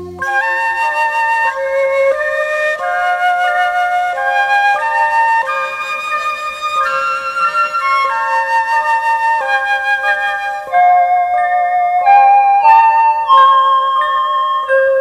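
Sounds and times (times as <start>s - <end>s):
slow flute melody: 0.0s - 15.0s.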